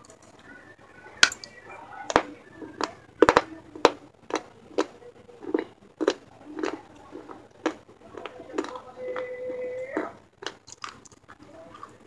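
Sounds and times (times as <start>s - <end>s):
clay being chewed crunching: 1.2s - 9.4s, 10.0s - 12.0s.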